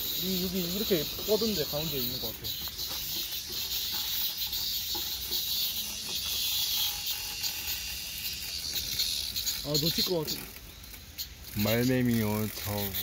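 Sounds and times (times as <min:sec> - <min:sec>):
cicadas buzzing: 0:00.0 - 0:13.0.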